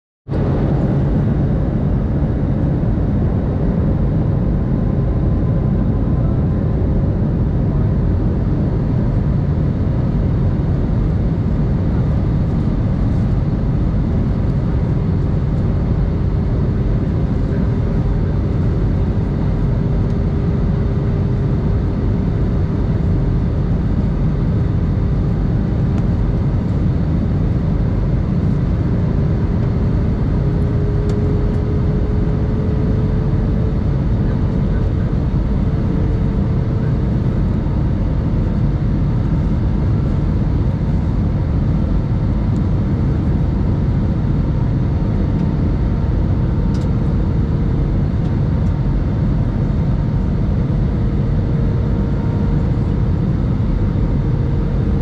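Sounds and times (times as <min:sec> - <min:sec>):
airplane cabin engine noise: 0:00.3 - 0:55.0.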